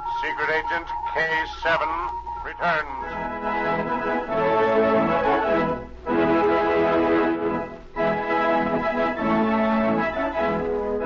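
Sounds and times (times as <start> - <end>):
instrumental theme music chords: 0.0 - 11.0.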